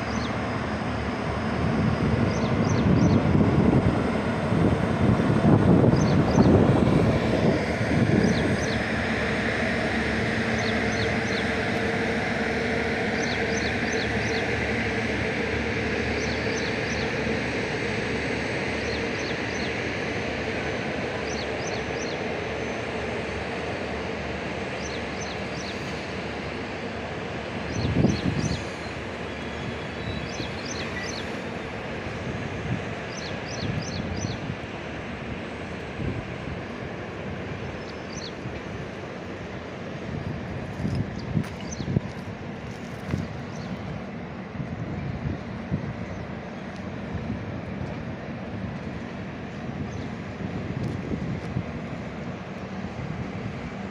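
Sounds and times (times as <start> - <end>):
train rumbling past: 0.0 - 53.9.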